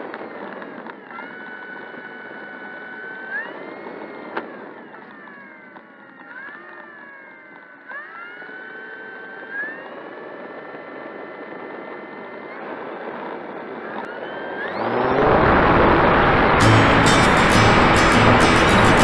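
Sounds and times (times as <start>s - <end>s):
electric motor and propeller whining: 0.0s - 16.7s.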